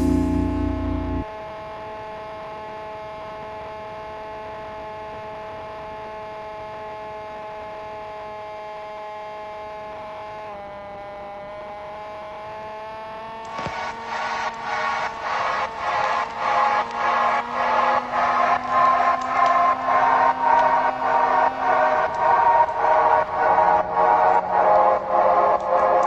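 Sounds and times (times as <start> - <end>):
electric motor and propeller whine: 0.0 - 26.0.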